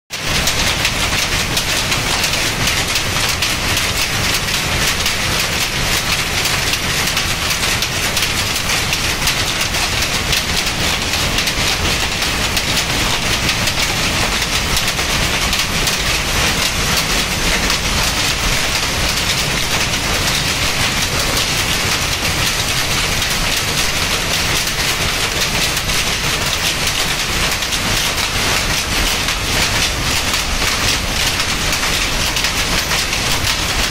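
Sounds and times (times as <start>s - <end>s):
power loom clattering: 0.1s - 33.9s.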